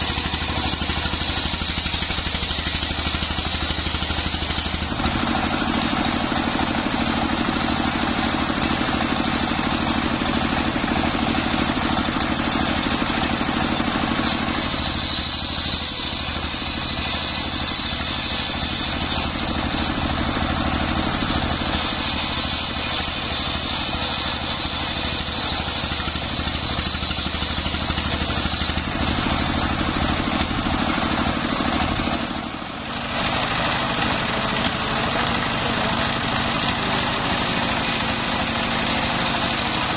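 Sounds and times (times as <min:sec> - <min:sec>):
diesel engine running: 0:00.0 - 0:39.9
saw blade whining through log: 0:00.0 - 0:39.9.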